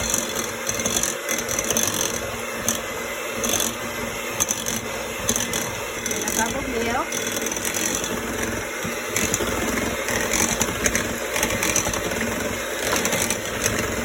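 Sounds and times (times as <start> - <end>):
electric hand mixer running: 0.0 - 14.0.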